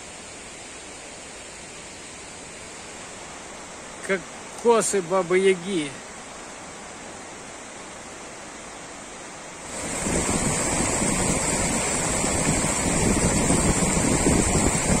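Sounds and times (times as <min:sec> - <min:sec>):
faint steady hiss: 0:00.0 - 0:15.0
mountain stream rushing over rocks: 0:00.0 - 0:15.0.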